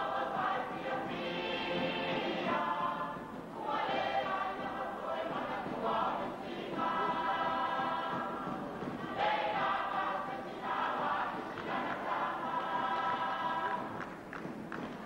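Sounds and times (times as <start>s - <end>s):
church choir singing: 0.0s - 14.1s.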